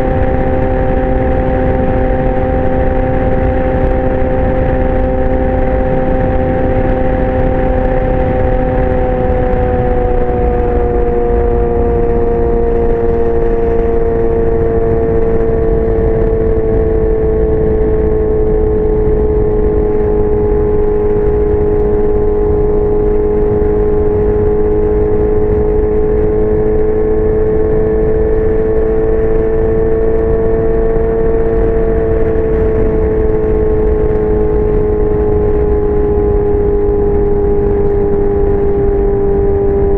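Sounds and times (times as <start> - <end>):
motorcycle engine steady note: 0.0 - 39.9.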